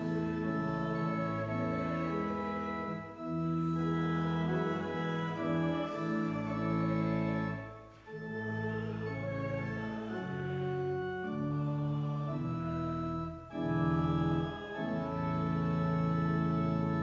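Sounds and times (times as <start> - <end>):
church organ playing a hymn: 0.0 - 17.0.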